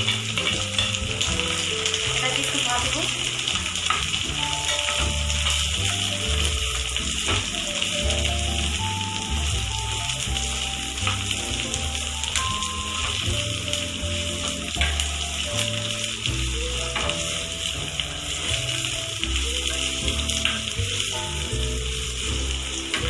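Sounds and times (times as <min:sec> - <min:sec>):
background music with bass line: 0:00.0 - 0:23.0
spatula stirring in frying pan: 0:00.0 - 0:23.0
vegetables sizzling in hot oil: 0:00.0 - 0:23.0.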